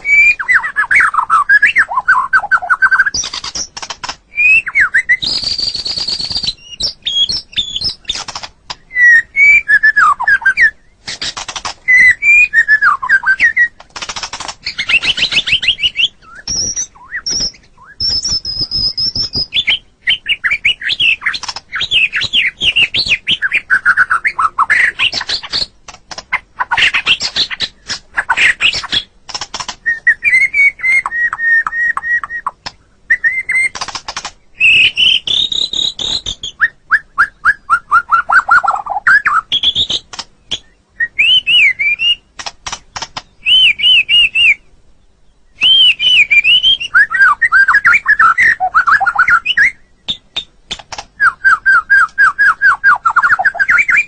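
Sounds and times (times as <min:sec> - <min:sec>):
songbird singing varied song: 0:00.0 - 0:54.0.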